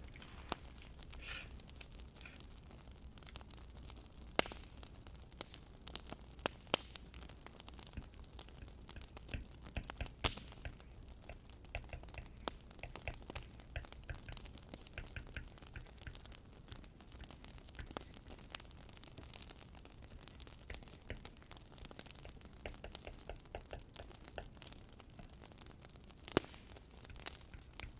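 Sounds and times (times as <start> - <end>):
wood fire crackling and popping: 0.0 - 27.9.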